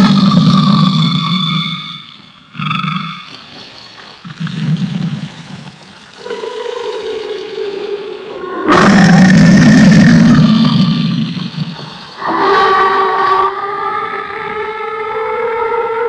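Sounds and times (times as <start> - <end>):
alligator roaring: 0.0 - 1.8, 4.3 - 16.0.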